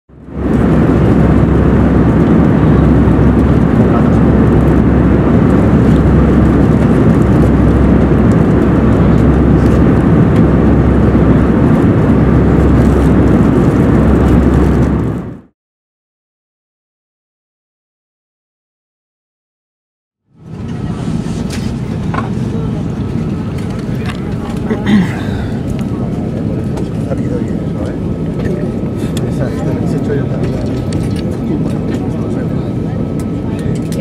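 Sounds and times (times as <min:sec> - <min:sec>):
airplane cabin engine roar: 0:00.1 - 0:15.5, 0:20.3 - 0:34.0.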